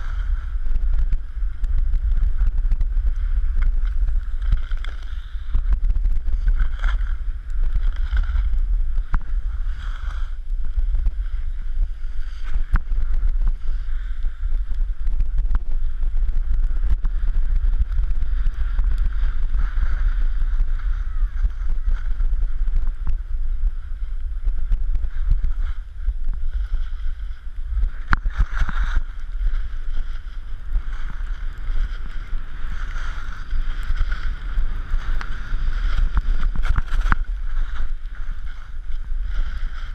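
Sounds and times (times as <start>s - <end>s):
skis sliding over snow: 0.0s - 39.9s
wind buffeting microphone: 0.0s - 39.9s.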